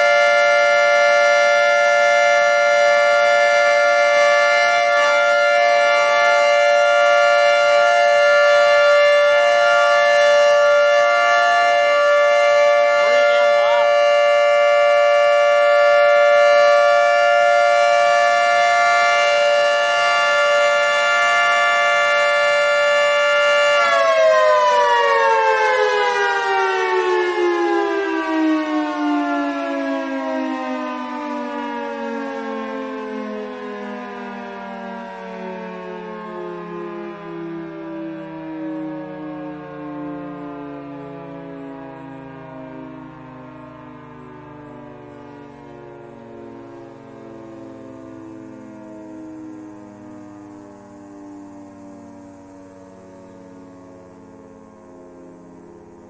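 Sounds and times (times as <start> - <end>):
dual-tone warning siren: 0.0 - 56.0
siren winding down: 0.0 - 56.0.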